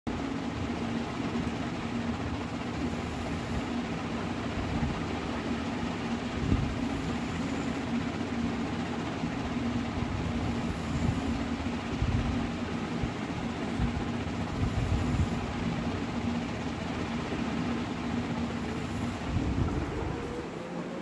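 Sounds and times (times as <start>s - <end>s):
low mechanical hum: 0.1s - 21.0s.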